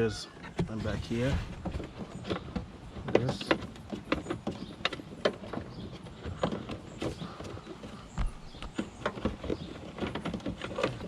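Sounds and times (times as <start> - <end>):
tool clicking and knocking on plastic: 1.6 - 11.0.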